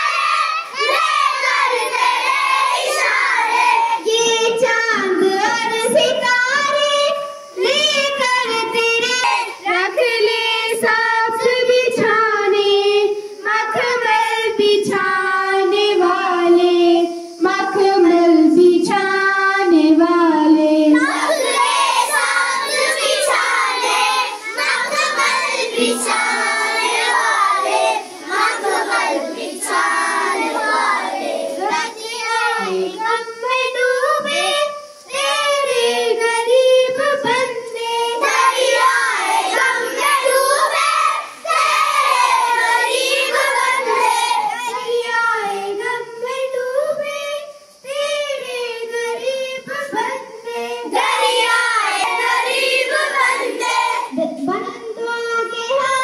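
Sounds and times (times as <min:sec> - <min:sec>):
children singing a prayer: 0:00.0 - 0:56.0.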